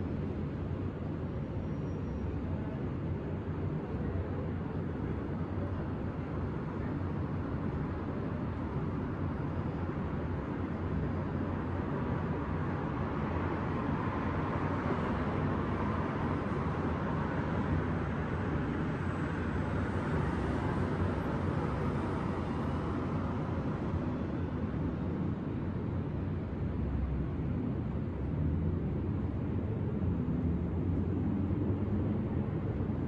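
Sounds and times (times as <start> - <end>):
rumble of city traffic: 0.0 - 33.0.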